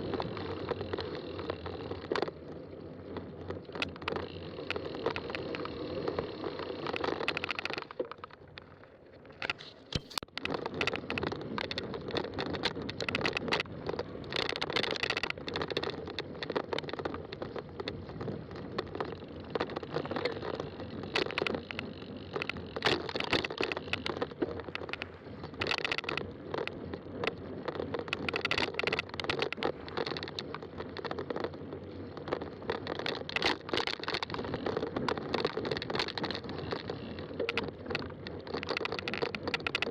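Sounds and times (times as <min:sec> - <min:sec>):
bike rattling and knocking: 0:00.0 - 0:39.9
bike tyres rolling: 0:00.0 - 0:39.9.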